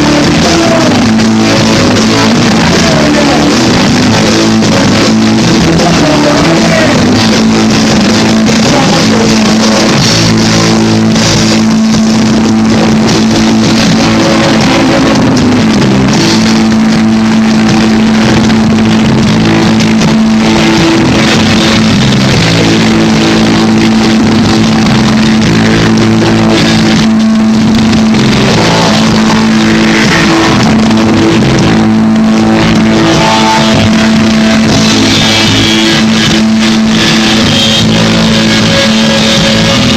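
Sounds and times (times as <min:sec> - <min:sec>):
bass and drums: 0:00.0 - 0:39.9
distorted electric guitars: 0:00.0 - 0:39.9.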